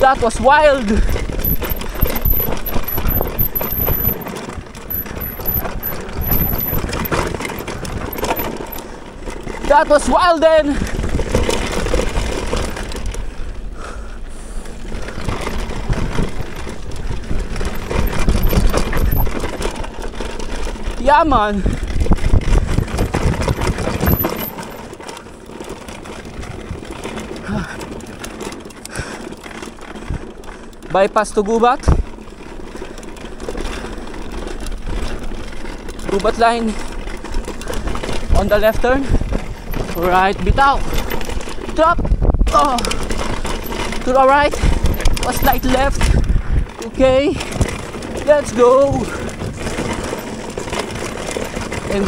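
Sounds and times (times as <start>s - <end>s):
bike clattering and rattling: 0.0s - 52.0s.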